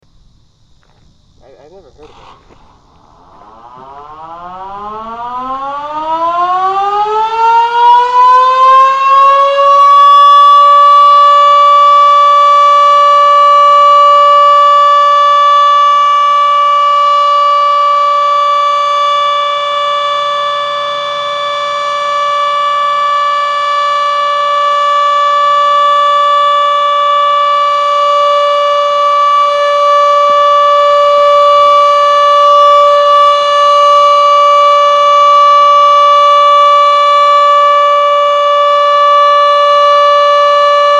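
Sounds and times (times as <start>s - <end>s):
warning siren: 2.0s - 40.9s.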